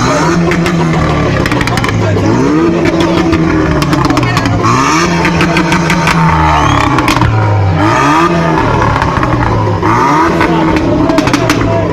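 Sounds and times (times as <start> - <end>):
car engine revving: 0.0 - 11.9
exhaust crackles: 0.0 - 11.9.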